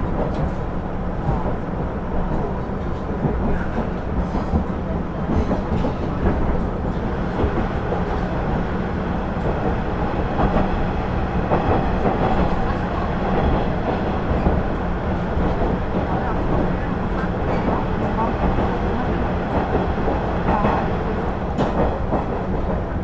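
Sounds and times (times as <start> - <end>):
rail clicks: 0.0 - 23.0.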